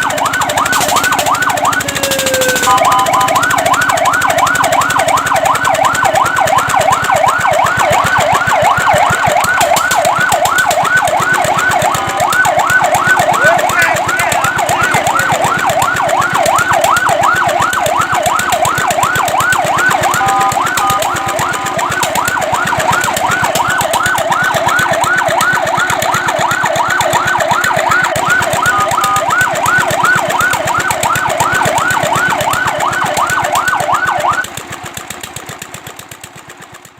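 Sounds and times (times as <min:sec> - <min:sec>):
fire truck siren yelping: 0:00.0 - 0:35.0.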